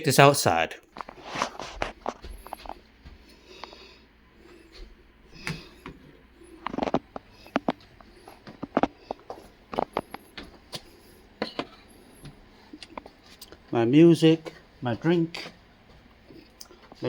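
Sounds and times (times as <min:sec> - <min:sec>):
footsteps: 0:00.9 - 0:17.0.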